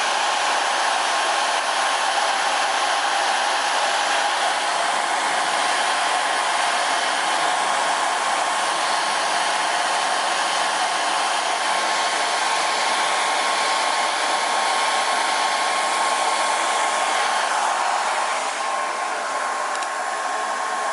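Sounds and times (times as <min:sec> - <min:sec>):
hair dryer blowing: 0:00.0 - 0:20.9.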